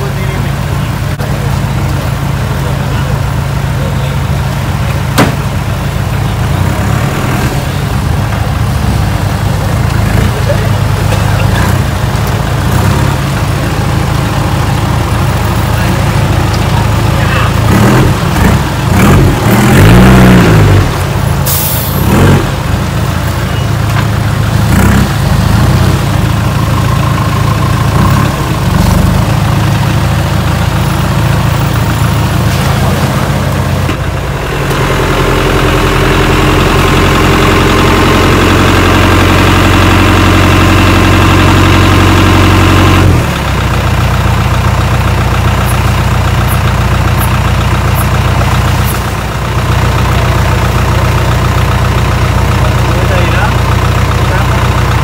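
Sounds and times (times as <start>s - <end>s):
off-road engine running: 0.0s - 55.0s.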